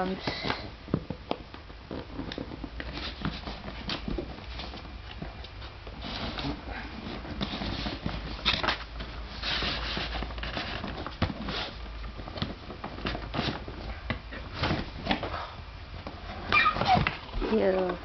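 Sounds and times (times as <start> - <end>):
packaging rustling and crinkling: 0.2 - 18.0.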